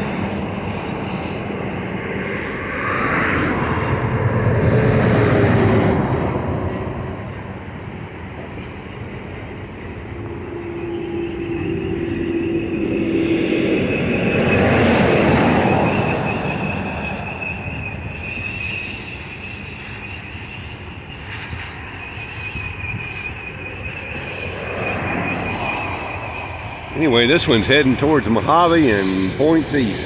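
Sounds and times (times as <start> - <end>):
freight train wheel rumble: 0.0 - 30.0
high wheel squeal: 0.0 - 30.0.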